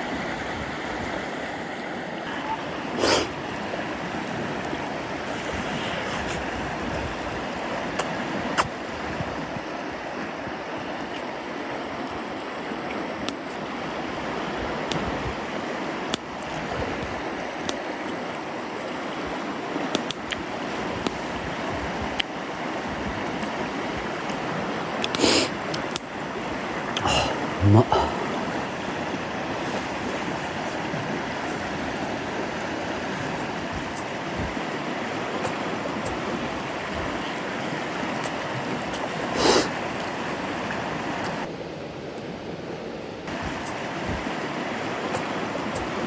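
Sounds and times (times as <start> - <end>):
mountain stream flowing: 0.0 - 46.0.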